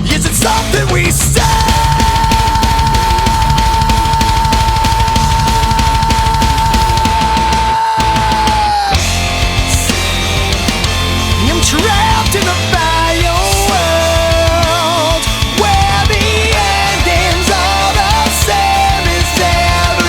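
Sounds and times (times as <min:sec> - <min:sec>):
fast driving drum beat: 0:00.0 - 0:20.0
heavy rock music: 0:00.0 - 0:20.0.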